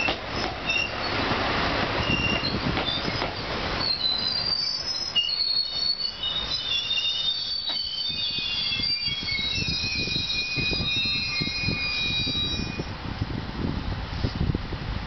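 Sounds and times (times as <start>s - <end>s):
train brakes squealing: 0.0s - 13.0s.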